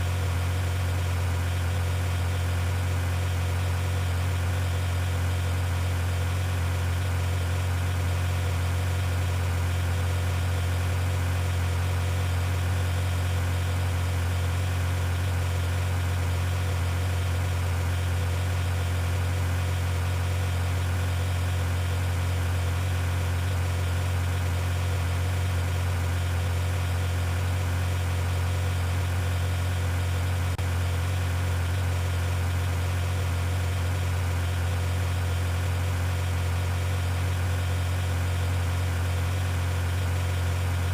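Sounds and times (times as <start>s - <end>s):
idling engine hum: 0.0s - 40.9s.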